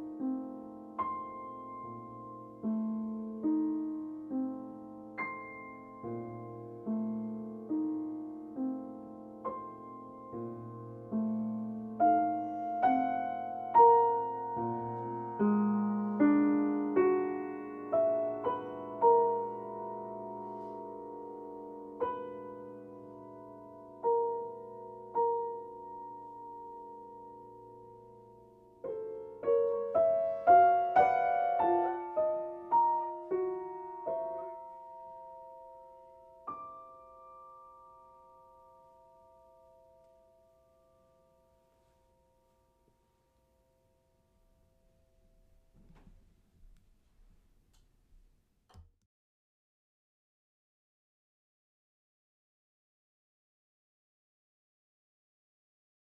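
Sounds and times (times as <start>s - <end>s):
slow piano chords: 0.0s - 47.8s.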